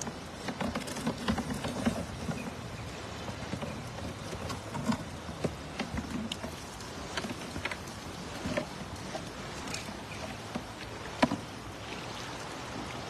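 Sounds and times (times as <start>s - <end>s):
fish flapping and slapping: 0.0s - 11.7s
water splashing and dripping: 0.0s - 13.0s.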